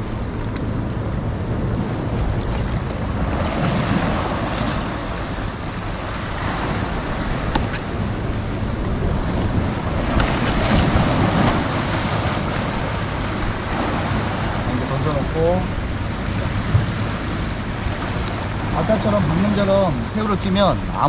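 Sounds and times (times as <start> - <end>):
wind buffeting microphone: 0.0 - 21.0
waves breaking on rocks: 1.6 - 21.0.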